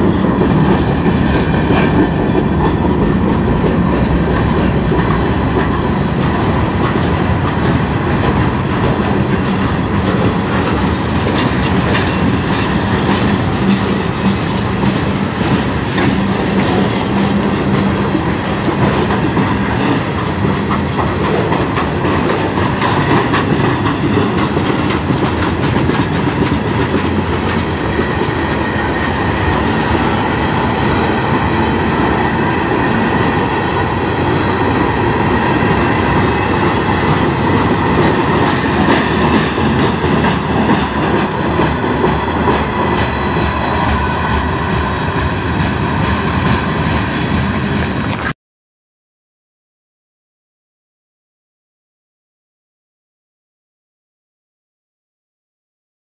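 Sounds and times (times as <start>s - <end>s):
freight train rolling past: 0.0s - 48.3s
steel wheels clattering over rail joints: 0.0s - 48.3s.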